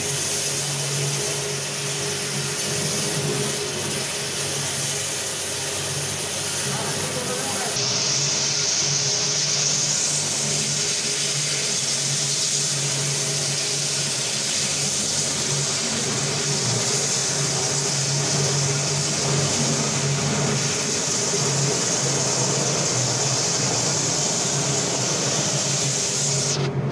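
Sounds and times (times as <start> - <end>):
floor polishing machine humming: 0.0 - 26.9
steady hiss: 0.0 - 26.9.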